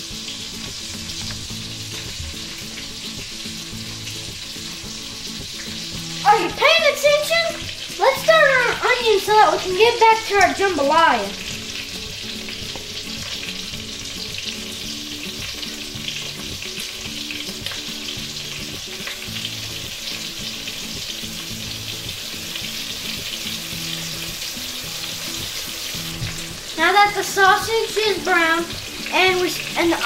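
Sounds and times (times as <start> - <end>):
onion rings sizzling in oil: 0.0 - 30.0.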